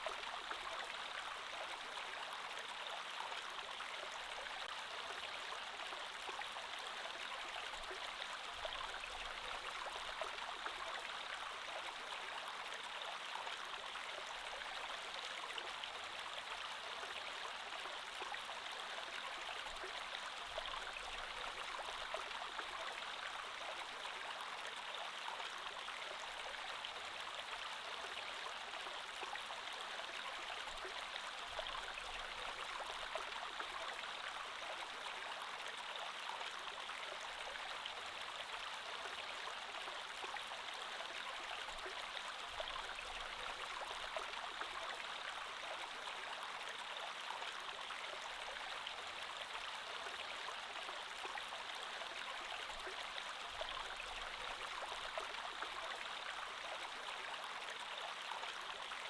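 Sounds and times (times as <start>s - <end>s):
creek water over rocks: 0.0s - 59.0s.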